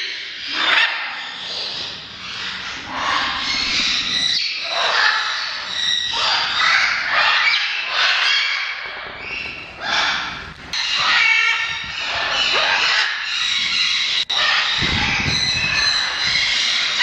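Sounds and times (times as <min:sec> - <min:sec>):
parrots squawking: 0:00.0 - 0:17.0.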